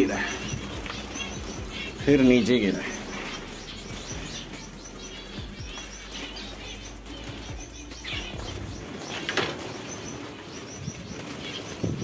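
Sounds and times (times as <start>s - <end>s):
finches chirping: 0.0s - 12.0s
wings fluttering: 0.0s - 12.0s.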